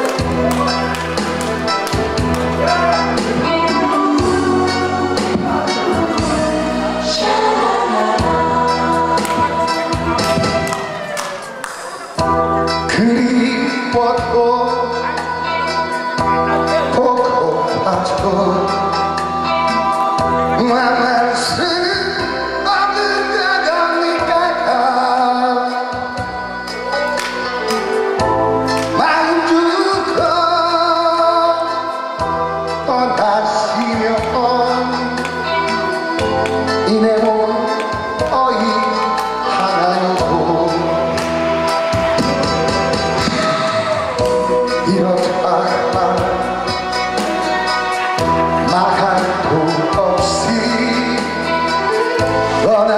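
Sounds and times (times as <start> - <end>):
pop song over loudspeakers: 0.0 - 52.9
man singing into microphone: 2.6 - 10.7, 12.2 - 52.9.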